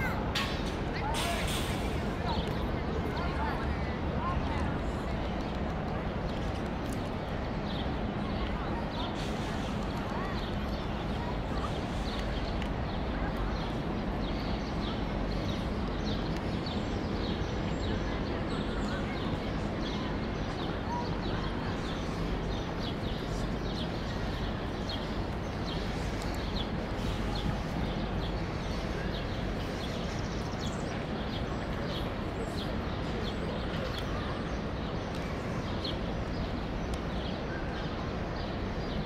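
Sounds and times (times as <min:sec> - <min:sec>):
city hum: 0:00.0 - 0:39.0.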